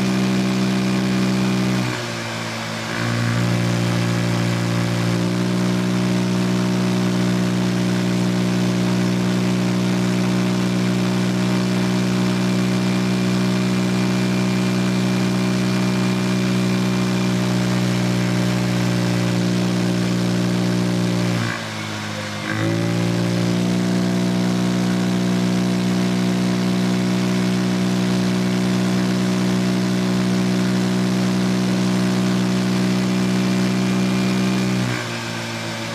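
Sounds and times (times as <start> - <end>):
scooter engine running: 0.0 - 35.9.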